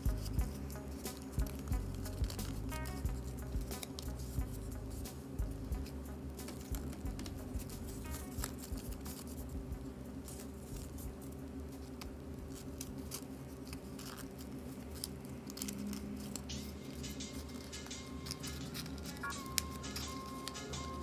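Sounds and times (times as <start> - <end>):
low steady hum: 0.0 - 21.0
paper crinkling: 0.0 - 21.0.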